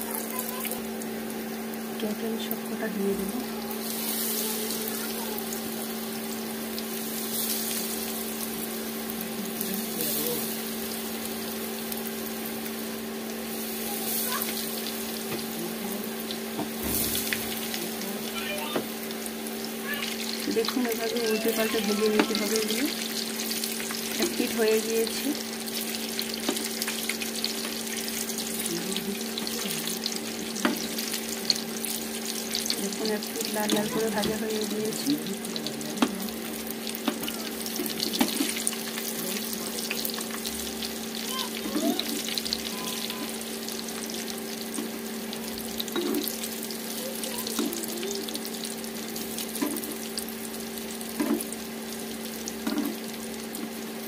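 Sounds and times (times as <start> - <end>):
deep-frying sizzle and crackles: 0.0 - 54.0.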